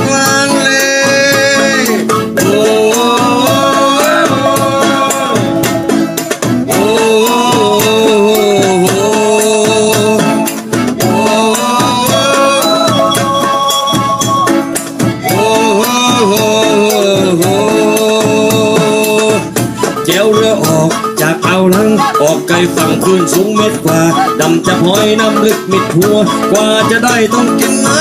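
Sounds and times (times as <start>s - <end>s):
accordion: 0.0s - 28.0s
acoustic guitar: 0.0s - 28.0s
hand drums: 0.0s - 28.0s
wavering lead melody: 0.0s - 28.0s
wooden xylophone: 0.0s - 28.0s.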